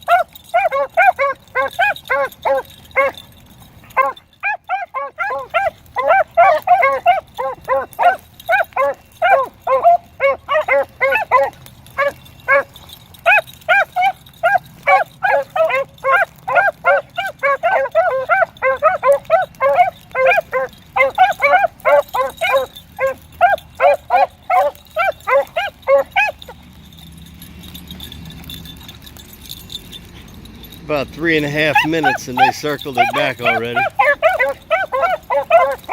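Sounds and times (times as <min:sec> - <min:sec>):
beagles baying: 0:00.0 - 0:35.9.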